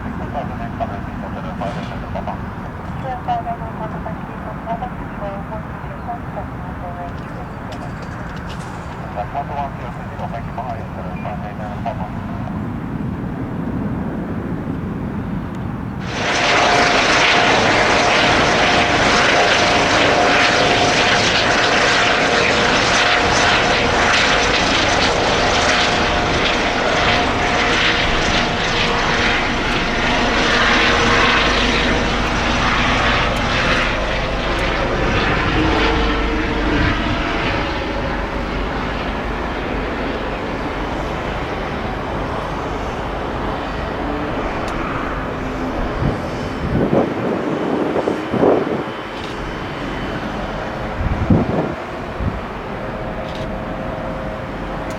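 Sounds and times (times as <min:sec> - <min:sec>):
jet engines roaring with whine: 0:00.0 - 0:54.9.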